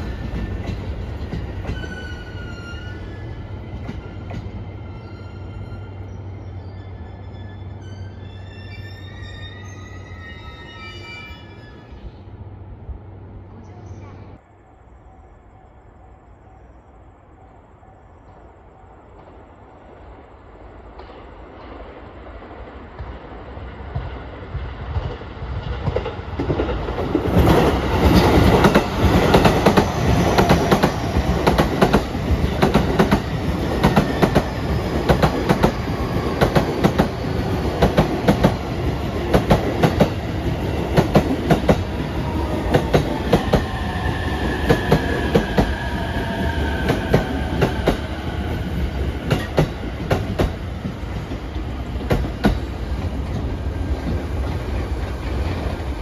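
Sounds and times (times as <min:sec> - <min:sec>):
rumble of train cars: 0:00.0 - 0:56.0.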